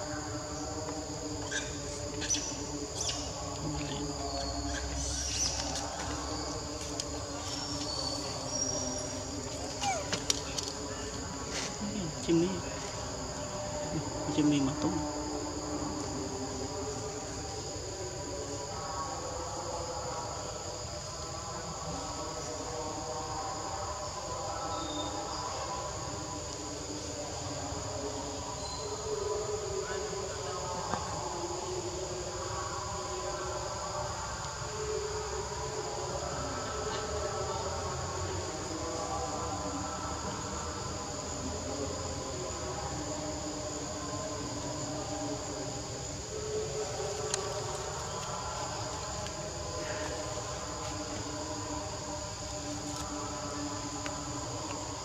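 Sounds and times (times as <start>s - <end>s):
low wavering insect hum: 0.0s - 55.0s.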